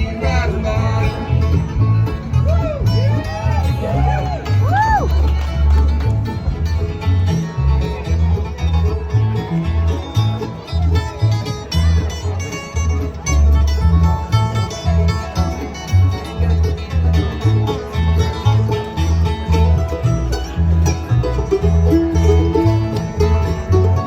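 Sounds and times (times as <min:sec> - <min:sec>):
banjo: 0:00.0 - 0:24.0
bass pulse: 0:00.0 - 0:24.0
bluegrass band playing: 0:00.0 - 0:24.0
guitar: 0:00.0 - 0:24.0.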